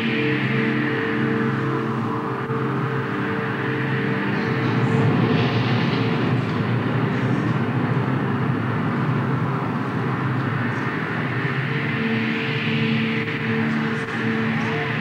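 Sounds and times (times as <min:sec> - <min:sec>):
low droning chord: 0:00.0 - 0:15.0
rushing rumbling noise: 0:00.0 - 0:15.0.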